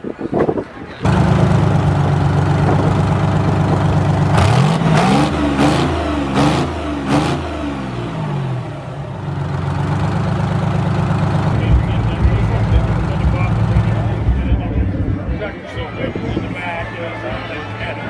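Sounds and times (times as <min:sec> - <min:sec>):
truck engine idling and revving: 0:01.0 - 0:18.0.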